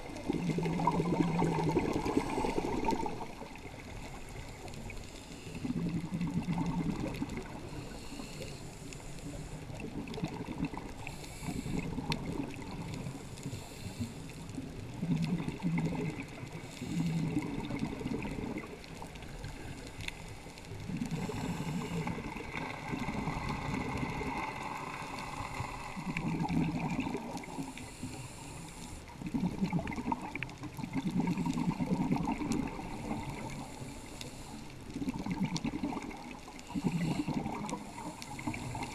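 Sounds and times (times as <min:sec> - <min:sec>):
exhaled bubbles underwater: 0:00.0 - 0:08.4, 0:09.2 - 0:38.9
watery background: 0:00.0 - 0:38.9.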